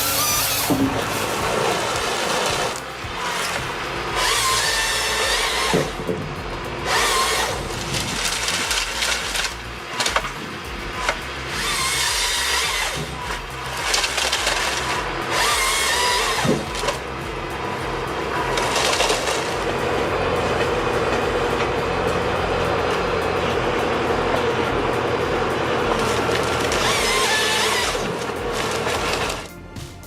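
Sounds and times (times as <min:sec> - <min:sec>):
low machine rumble: 0:00.0 - 0:30.0
power saw cutting wood: 0:00.0 - 0:30.0.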